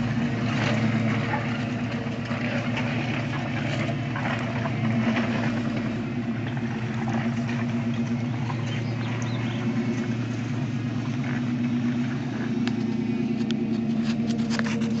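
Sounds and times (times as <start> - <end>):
engine running at low speed: 0.0 - 15.0.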